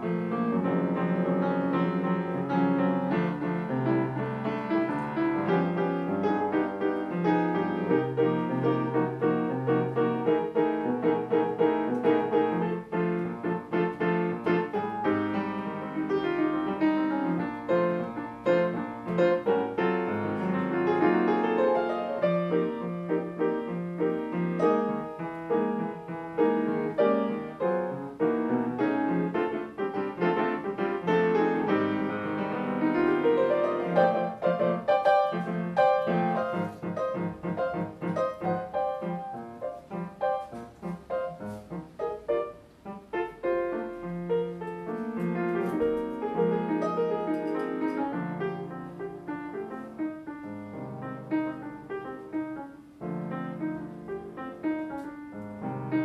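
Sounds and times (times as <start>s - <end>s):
solo piano ballad: 0.0s - 56.0s.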